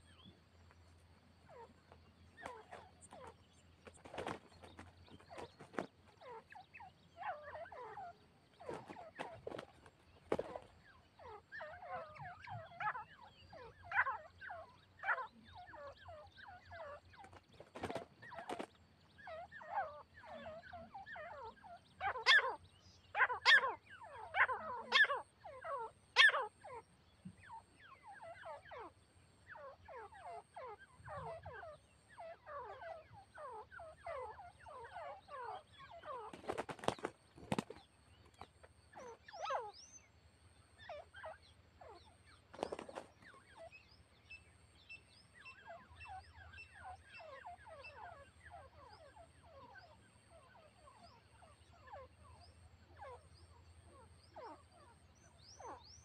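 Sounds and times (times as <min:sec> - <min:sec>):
partridges calling: 0:00.0 - 0:56.0.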